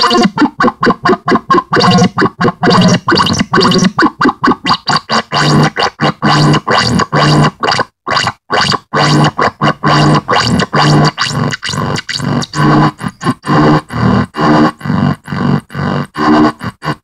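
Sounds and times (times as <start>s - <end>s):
stuttering electronic noise music: 0.0s - 17.0s.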